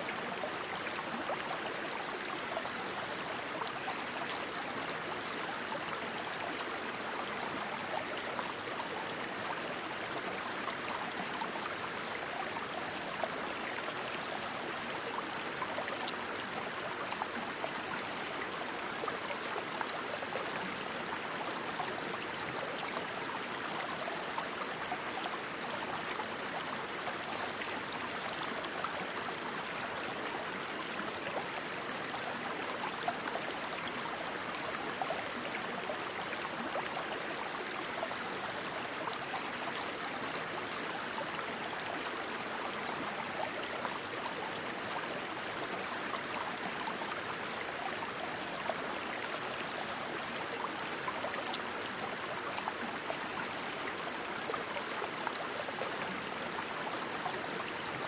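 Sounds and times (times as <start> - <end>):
rushing stream water: 0.0 - 58.0.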